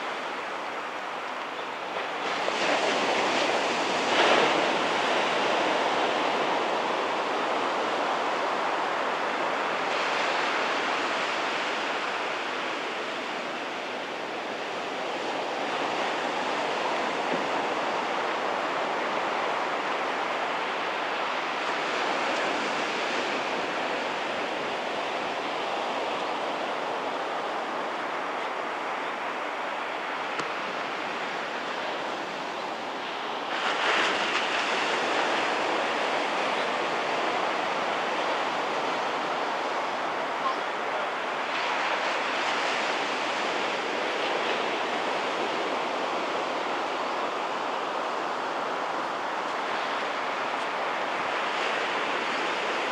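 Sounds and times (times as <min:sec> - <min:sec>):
waves breaking on shore: 0:00.0 - 0:52.9.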